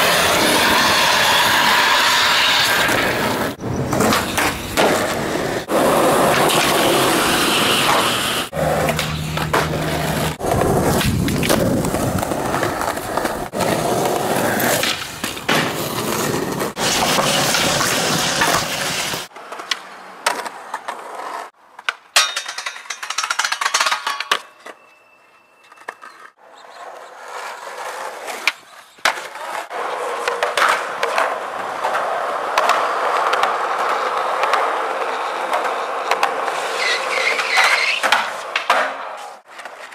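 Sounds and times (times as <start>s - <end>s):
skateboard clacks: 0.0s - 24.8s, 25.7s - 39.9s
skateboard wheels rolling on concrete: 0.0s - 39.9s.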